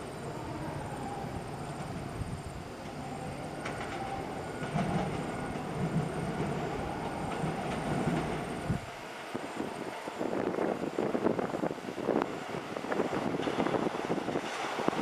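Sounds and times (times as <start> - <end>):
electric train rumble: 0.0 - 15.0
wheels clattering over rail joints: 0.0 - 15.0.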